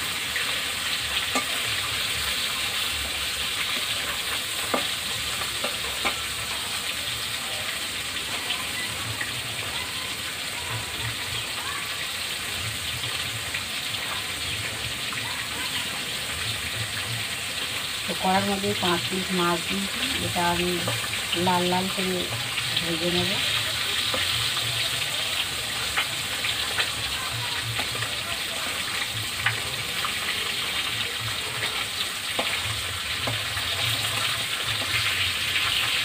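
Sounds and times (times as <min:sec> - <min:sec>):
fish sizzling in hot oil: 0:00.0 - 0:36.0.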